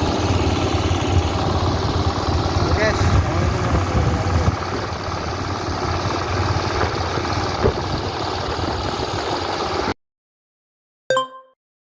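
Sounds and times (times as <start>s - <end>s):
harvester engine running: 0.0s - 10.0s.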